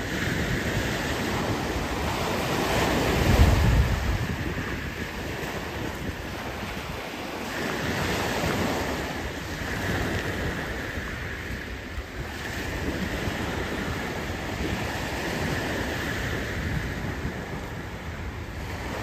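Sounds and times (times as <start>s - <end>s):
waves washing up pebble beach: 0.0s - 19.0s
wind buffeting microphone: 0.0s - 19.0s.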